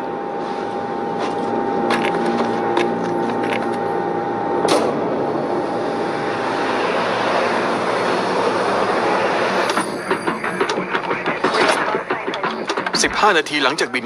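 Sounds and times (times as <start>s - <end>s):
jet engine roar: 0.0s - 13.8s
steady humming tones: 0.0s - 14.0s.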